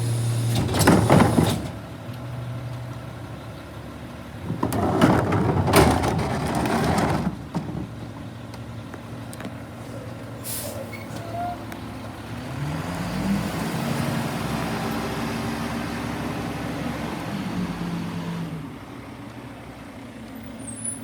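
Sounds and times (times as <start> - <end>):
garbage truck engine humming: 0.0 - 20.6.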